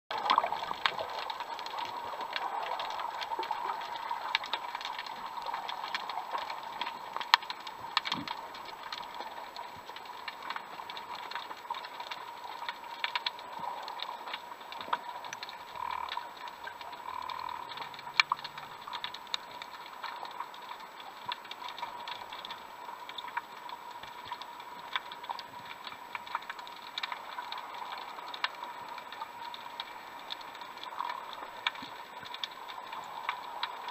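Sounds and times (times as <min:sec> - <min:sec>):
sharp clicks and crackles: 0:00.1 - 0:33.9.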